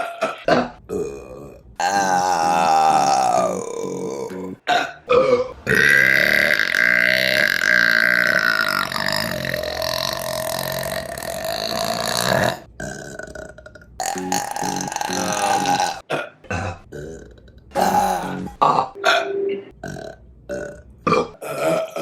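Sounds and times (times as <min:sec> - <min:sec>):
woman burping: 0:00.0 - 0:19.2, 0:19.8 - 0:22.0.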